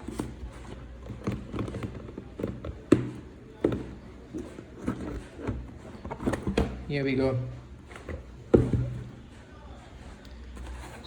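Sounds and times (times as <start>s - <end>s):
cardboard rustling: 0.0s - 6.9s, 7.7s - 11.0s.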